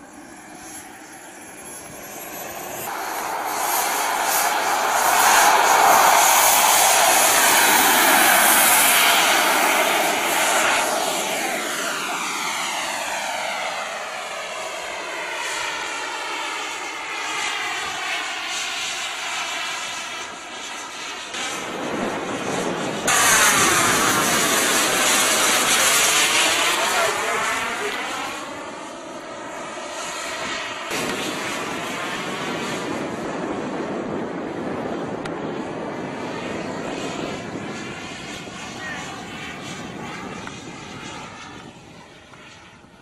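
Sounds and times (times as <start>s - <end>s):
model jet turbine engines: 0.0s - 43.0s.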